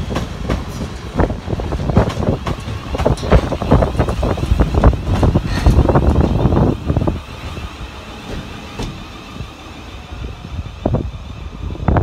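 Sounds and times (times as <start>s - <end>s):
train rumbling along track: 0.0s - 12.0s
wind buffeting microphone: 0.0s - 12.0s.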